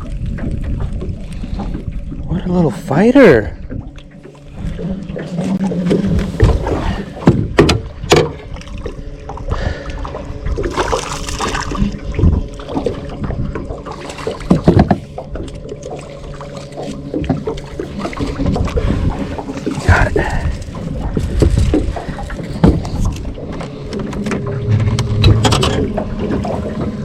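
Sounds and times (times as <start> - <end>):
water splashing against boat: 0.0 - 27.0.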